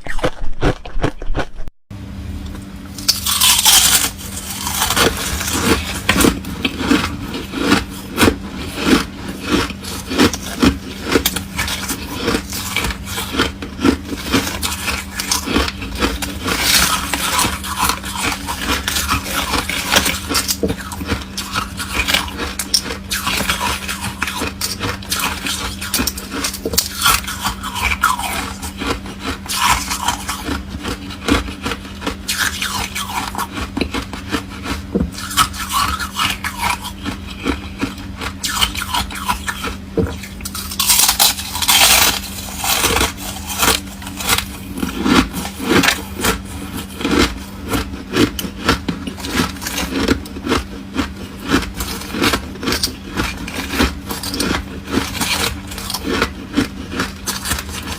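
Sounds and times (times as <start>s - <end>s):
foam ice crunching while chewed: 0.0s - 1.7s, 3.0s - 57.9s.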